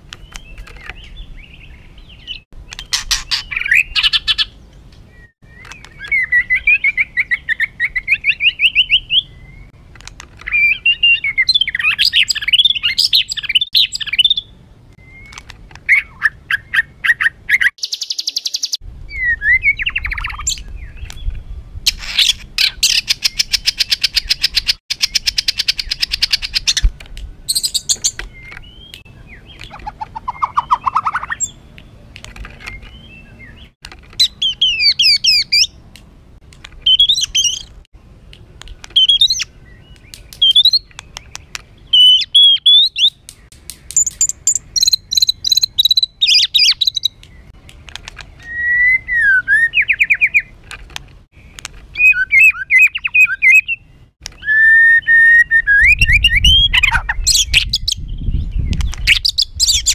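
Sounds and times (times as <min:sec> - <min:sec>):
bird singing trills and rattles: 0:00.0 - 0:35.8, 0:36.7 - 0:37.9, 0:38.7 - 0:54.7, 0:55.3 - 0:59.9.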